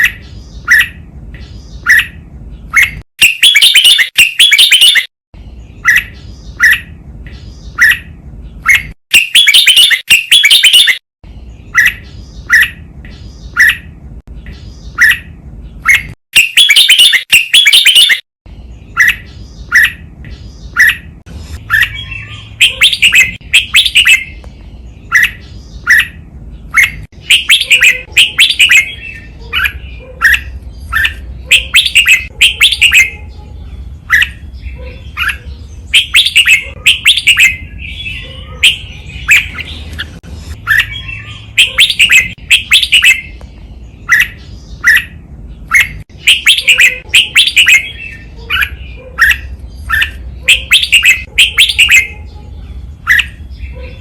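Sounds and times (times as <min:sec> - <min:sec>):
bulbul singing chirpy whistles: 0:00.0 - 0:11.0, 0:11.6 - 0:24.4, 0:25.0 - 0:33.2, 0:34.1 - 0:43.4, 0:44.0 - 0:52.2.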